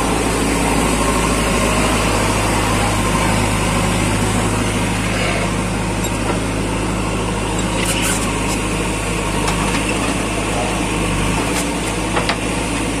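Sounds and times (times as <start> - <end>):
diesel engines idling: 0.0 - 13.0.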